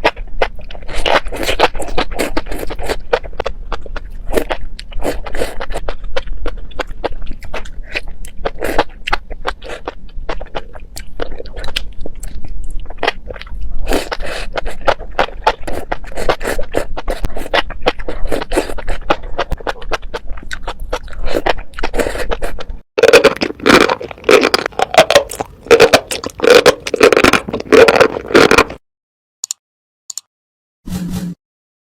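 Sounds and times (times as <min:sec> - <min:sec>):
person chewing and biting food: 0:00.0 - 0:28.8.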